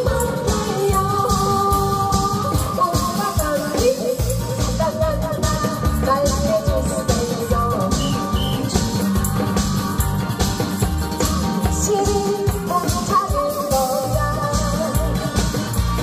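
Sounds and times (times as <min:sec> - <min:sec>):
woman singing into microphone: 0:00.0 - 0:09.6, 0:11.2 - 0:16.0
amplified backing track with drums: 0:00.0 - 0:16.0.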